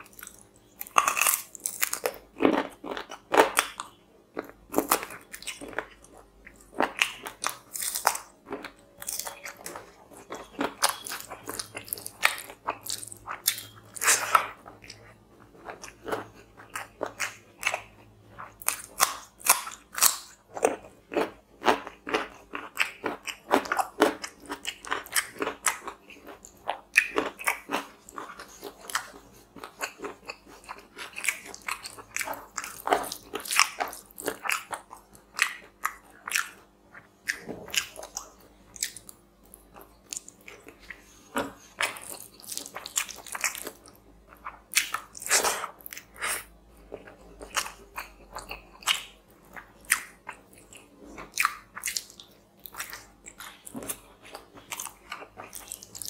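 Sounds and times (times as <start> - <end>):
man chewing food: 0.0 - 56.0.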